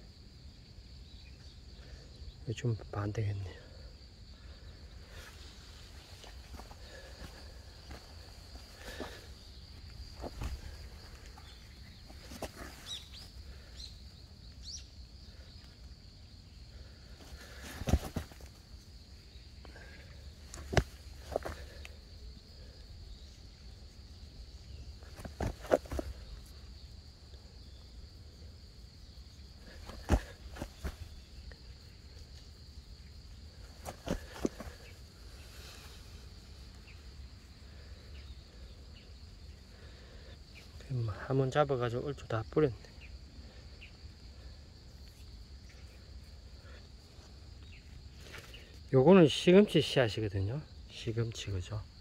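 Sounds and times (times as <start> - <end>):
high insect trill: 0.0 - 52.0.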